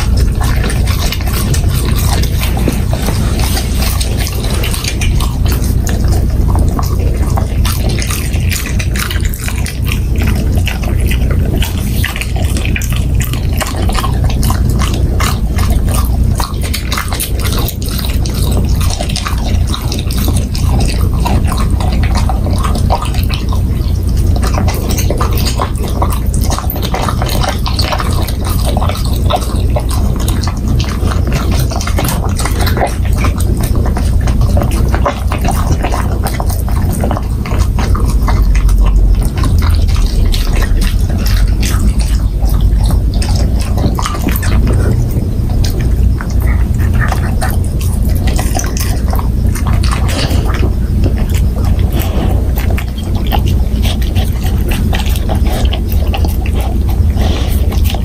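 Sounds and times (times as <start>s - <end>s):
dog chewing wetly: 0.0s - 58.0s
steady low hum: 0.0s - 58.0s.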